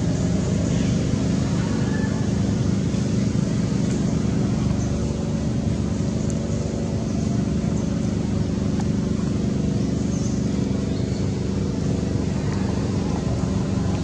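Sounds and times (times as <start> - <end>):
low motor drone: 0.0 - 14.0.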